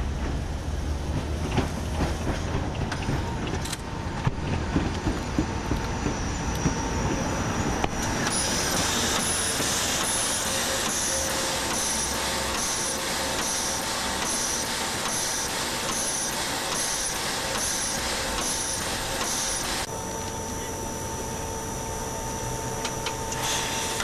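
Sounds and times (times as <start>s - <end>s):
steam locomotive clattering: 0.0s - 19.9s
steam hissing: 0.8s - 19.9s, 23.2s - 24.0s.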